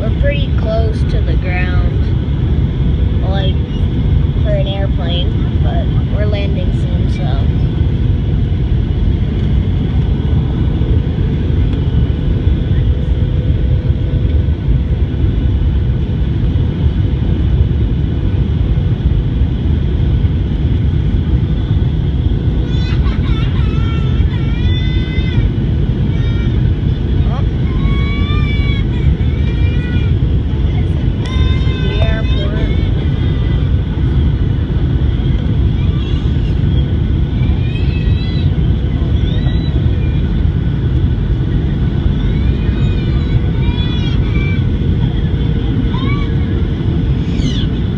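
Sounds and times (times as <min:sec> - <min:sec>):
airliner cabin engine noise: 0:00.0 - 0:47.9.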